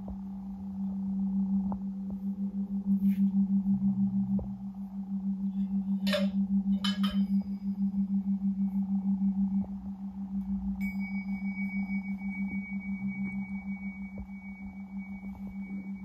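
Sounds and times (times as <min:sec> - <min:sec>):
singing bowl ringing: 0:01.0 - 0:16.0.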